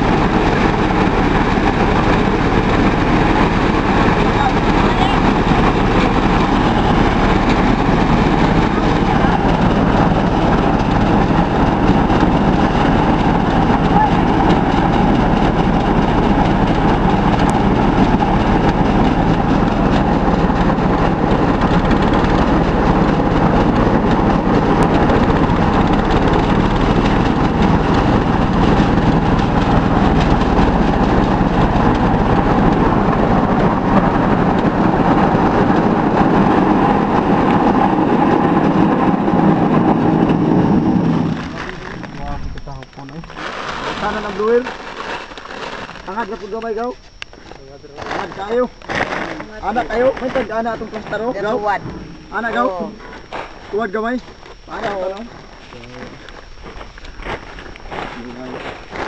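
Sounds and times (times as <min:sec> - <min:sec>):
thresher engine droning: 0:00.0 - 0:59.0.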